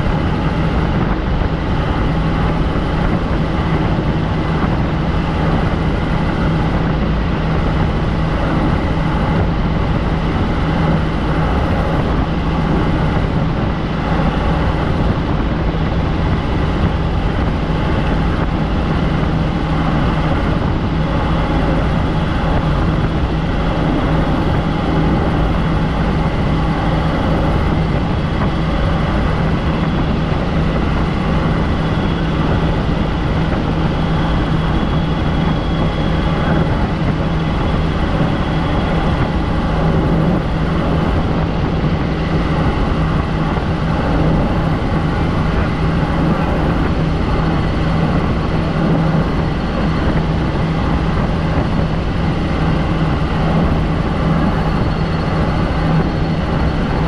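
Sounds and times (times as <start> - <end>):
helicopter engine and rotor noise: 0.0 - 57.0.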